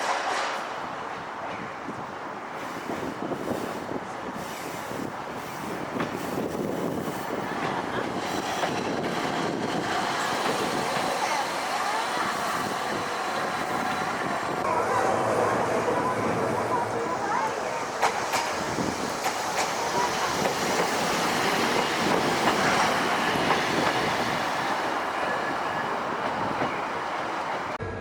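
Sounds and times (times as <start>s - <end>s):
streetcar running on track: 0.0s - 28.0s.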